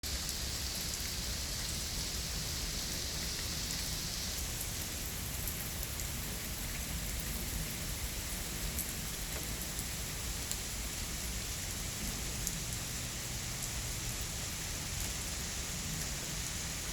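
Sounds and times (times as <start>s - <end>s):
steady rain hiss: 0.0s - 16.9s.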